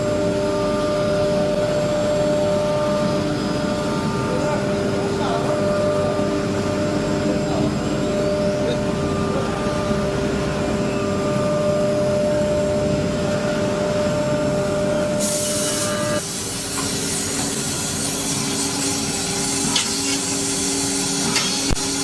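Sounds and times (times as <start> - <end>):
machinery motor hum: 0.0 - 22.0.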